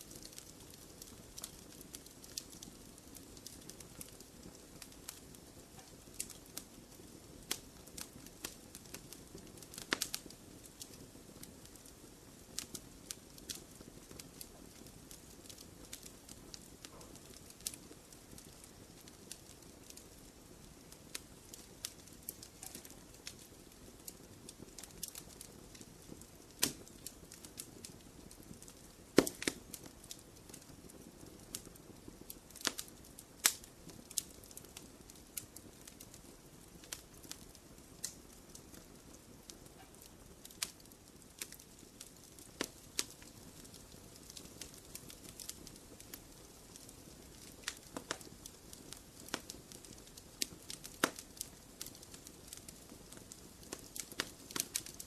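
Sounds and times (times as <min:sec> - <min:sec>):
low hiss of flames: 0:00.0 - 0:55.0
wood fire crackling and popping: 0:00.0 - 0:55.0.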